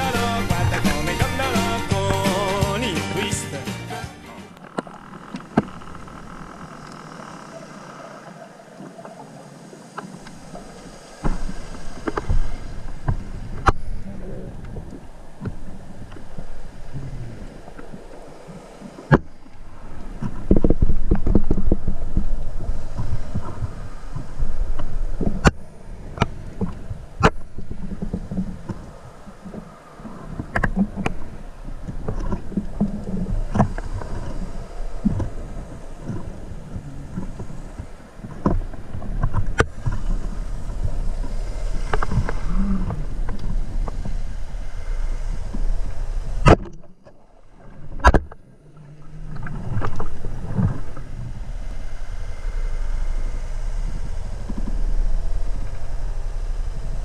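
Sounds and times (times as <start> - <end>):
low rumbling water noise: 0.0 - 3.4, 4.4 - 57.0.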